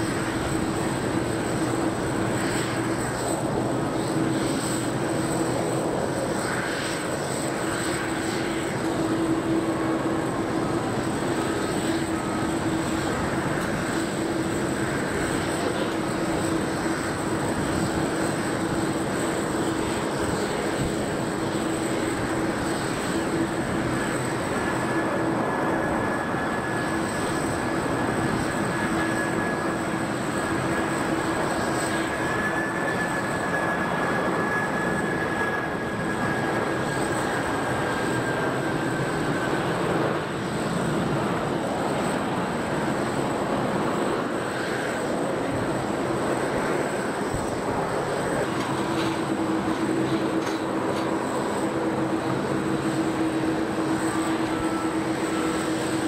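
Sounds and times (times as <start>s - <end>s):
jet aircraft drone: 0.0s - 56.0s.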